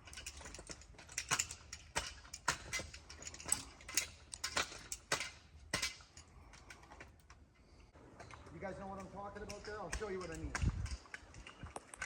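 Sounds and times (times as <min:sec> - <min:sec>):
climbing gear clicking and clinking: 0:00.0 - 0:12.0.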